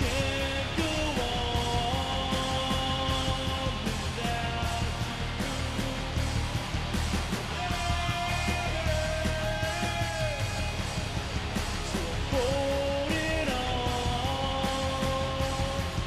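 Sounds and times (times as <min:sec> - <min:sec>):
bass: 0:00.0 - 0:16.0
drum machine: 0:00.0 - 0:16.0
electric guitar: 0:00.0 - 0:16.0.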